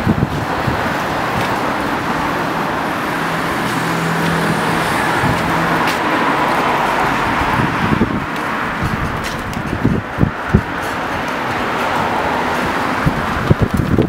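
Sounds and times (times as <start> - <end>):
engine hum: 0.0 - 14.0
tyre noise of passing cars: 0.0 - 14.0.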